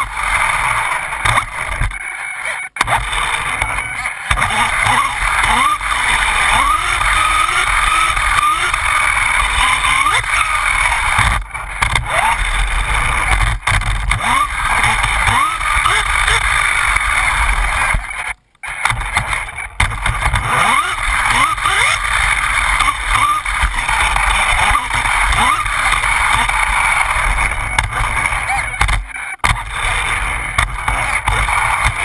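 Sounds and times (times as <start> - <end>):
drivetrain and tyre noise: 0.0 - 32.0
electric motor whining: 0.0 - 32.0.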